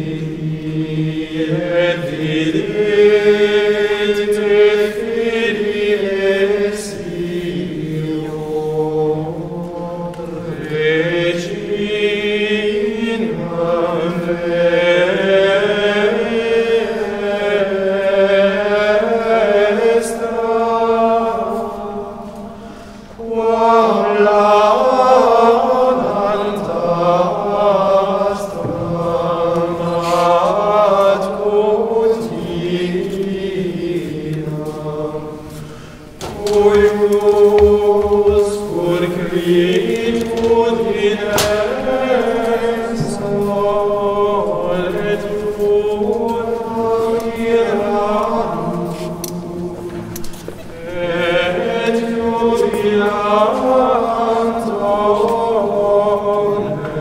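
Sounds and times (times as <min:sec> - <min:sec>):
men's choir chanting in church: 0:00.0 - 0:57.0.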